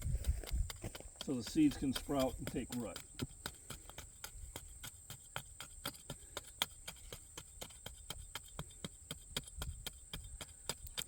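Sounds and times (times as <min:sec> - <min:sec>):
hand tool chopping into soil: 0:00.0 - 0:11.0.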